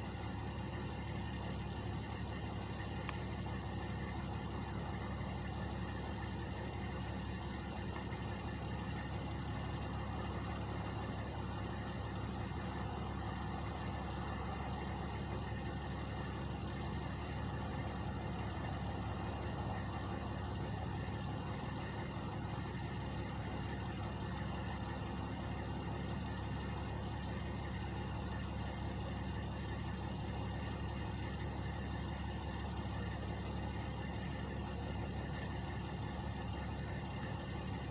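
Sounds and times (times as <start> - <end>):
truck engines idling: 0.0 - 37.9.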